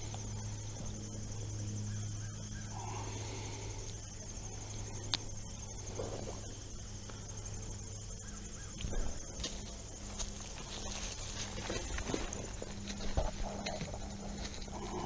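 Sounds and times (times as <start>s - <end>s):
insects chirping: 0.0s - 15.0s
low steady hum: 0.0s - 15.0s.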